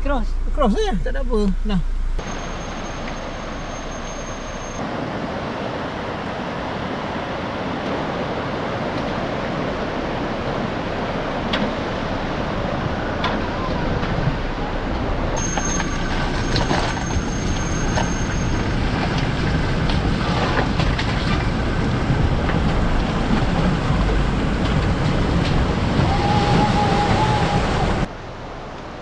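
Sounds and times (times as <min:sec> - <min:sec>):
low vehicle rumble: 0:00.0 - 0:05.2, 0:09.1 - 0:29.0
fast-flowing water rushing: 0:02.2 - 0:18.9, 0:19.5 - 0:29.0.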